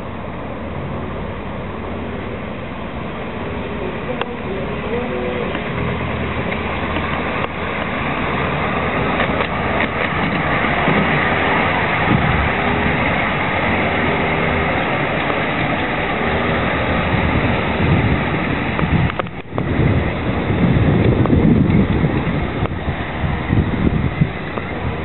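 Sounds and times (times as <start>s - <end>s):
miniature train rumbling: 0.0s - 25.0s
wheels clicking on rails: 0.0s - 25.0s.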